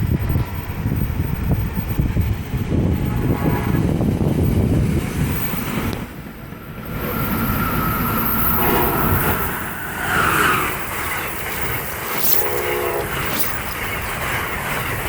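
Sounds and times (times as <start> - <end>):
steady high whine: 0.0 - 15.0
train passing: 0.0 - 15.0
wind buffeting microphone: 0.0 - 15.0.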